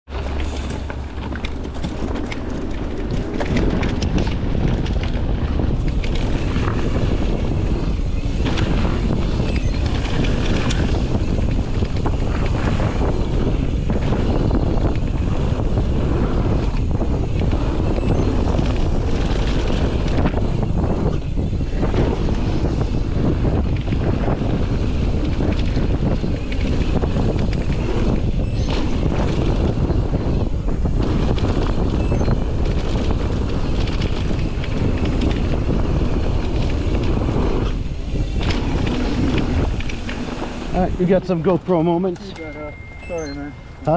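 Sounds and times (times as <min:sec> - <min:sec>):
bike clicks and rattles: 0:00.1 - 0:42.4
tyres on dirt: 0:00.1 - 0:43.9
wind buffeting microphone: 0:00.1 - 0:43.9.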